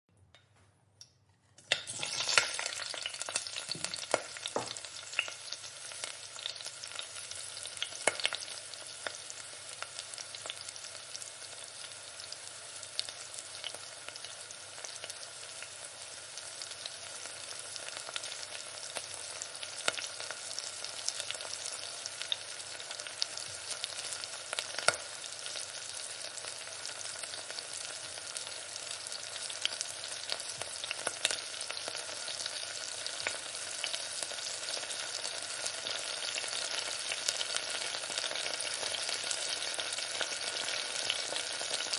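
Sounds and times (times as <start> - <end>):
food sizzling in a pan: 1.6 - 41.9.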